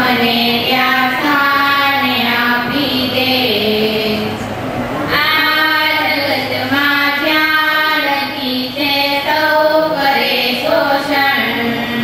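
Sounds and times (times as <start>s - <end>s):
girls singing together: 0.0s - 12.0s.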